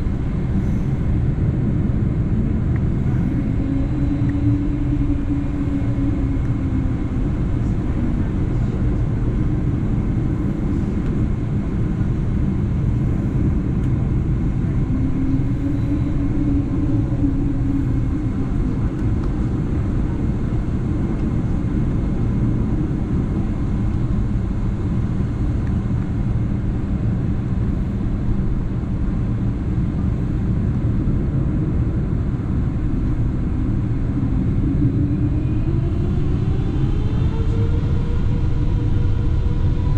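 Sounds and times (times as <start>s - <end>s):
airplane cabin rumble: 0.0s - 39.9s
faint engine tone: 0.0s - 39.9s.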